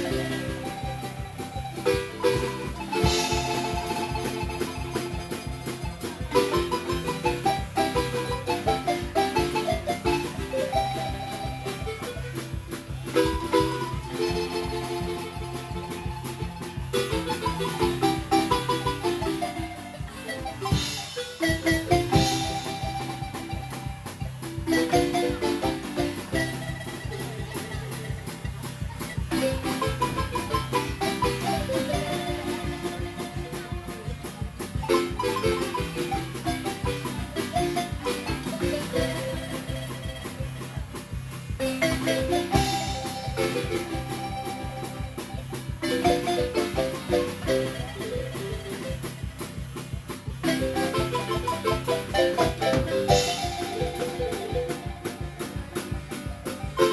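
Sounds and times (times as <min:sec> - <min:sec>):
marimba dance tune: 0:00.0 - 0:56.9.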